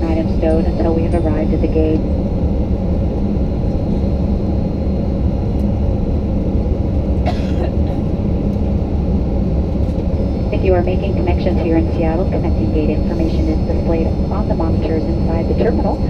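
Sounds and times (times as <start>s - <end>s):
airplane cabin rumble taxiing: 0.0s - 16.0s.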